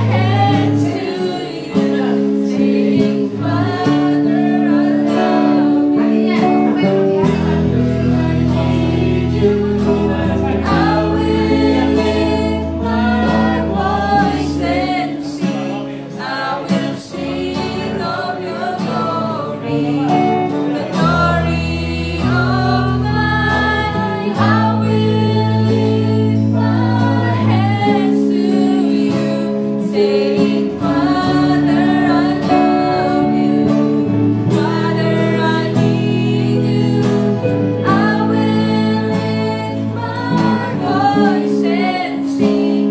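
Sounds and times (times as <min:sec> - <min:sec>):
acoustic guitar strumming: 0:00.0 - 0:42.9
electric guitar: 0:00.0 - 0:42.9
women singing worship song: 0:00.0 - 0:42.9.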